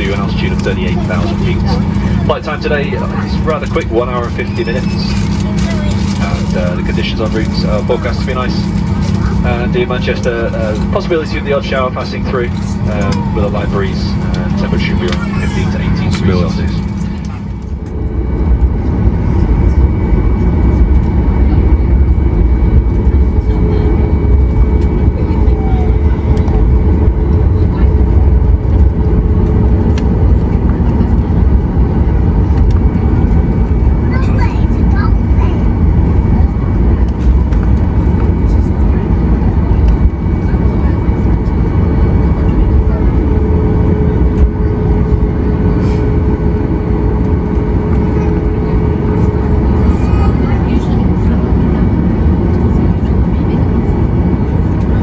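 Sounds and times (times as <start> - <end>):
aircraft cabin low rumble: 0.0 - 55.0
steady hum: 0.0 - 55.0.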